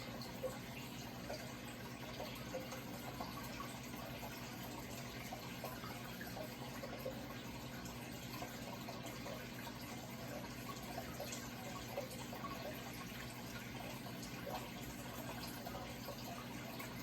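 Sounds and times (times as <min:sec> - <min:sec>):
low steady hum: 0:00.0 - 0:17.0
water trickling and splashing: 0:00.0 - 0:17.0.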